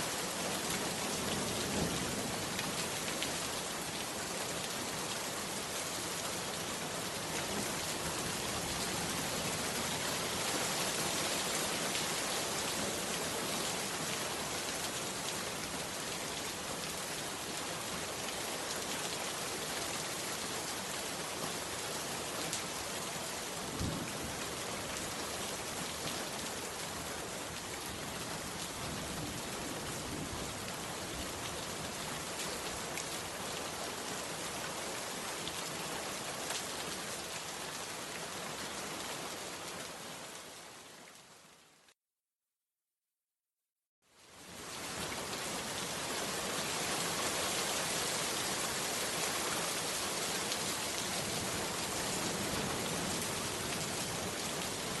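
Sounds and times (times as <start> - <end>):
heavy rain falling: 0.0 - 41.2, 44.4 - 55.0.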